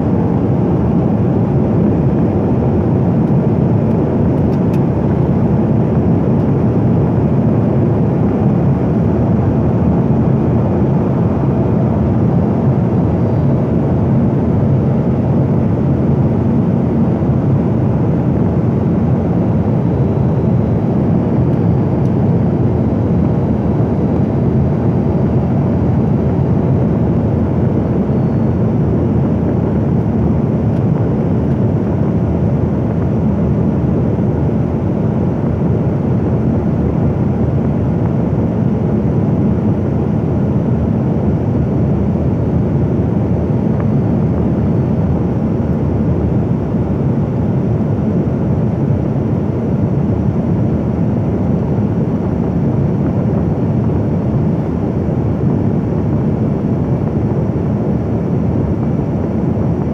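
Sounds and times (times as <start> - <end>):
airliner cabin drone: 0.0 - 59.9.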